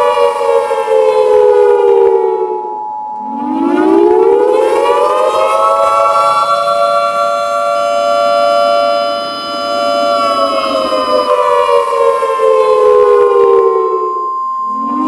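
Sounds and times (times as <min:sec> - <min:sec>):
higher steady siren tone: 0:00.0 - 0:15.0
tornado warning sirens wailing: 0:00.0 - 0:15.0.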